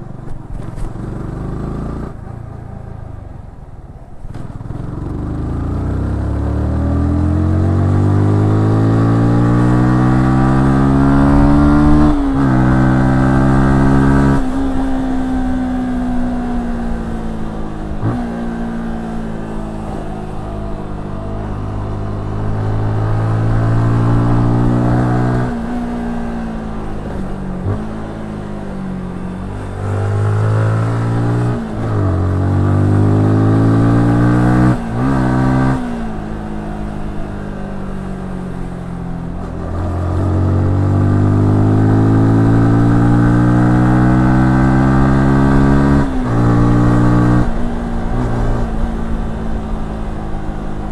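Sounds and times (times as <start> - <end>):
motorcycle engine accelerating: 0.0 - 3.3, 4.2 - 50.9.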